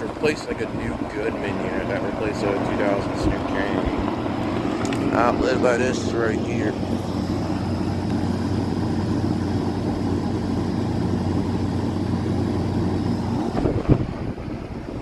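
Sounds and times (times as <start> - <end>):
heat pump compressor and fan hum: 0.0 - 15.0.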